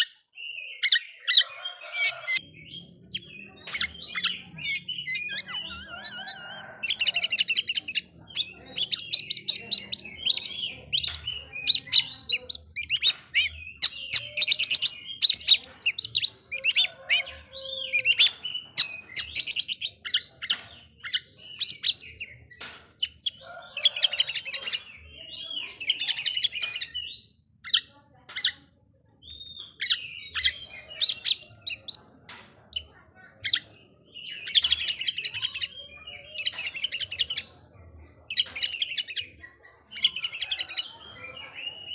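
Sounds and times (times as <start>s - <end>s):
bird singing chattering notes: 0.0s - 41.9s.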